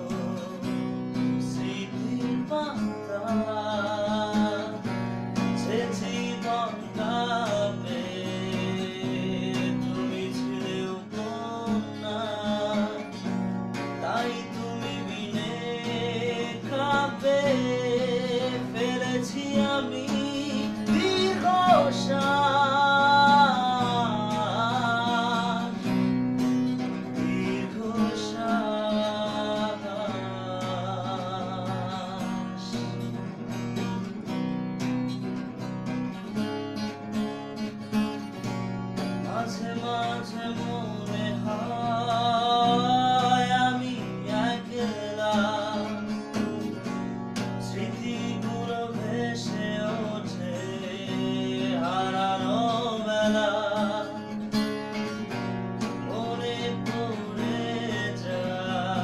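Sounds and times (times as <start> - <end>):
man singing with vibrato: 0.0 - 34.0, 39.0 - 59.0
acoustic guitar strumming: 0.0 - 59.0.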